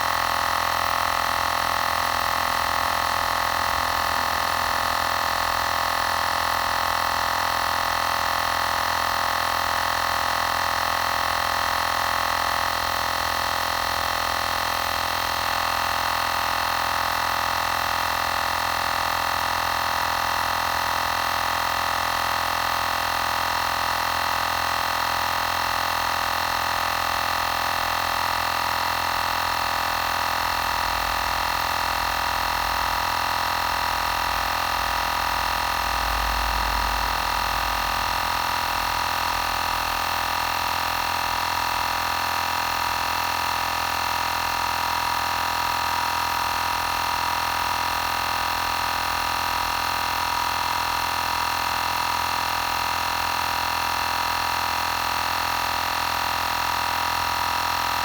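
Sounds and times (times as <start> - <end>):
air compressor whining: 0.0 - 58.0.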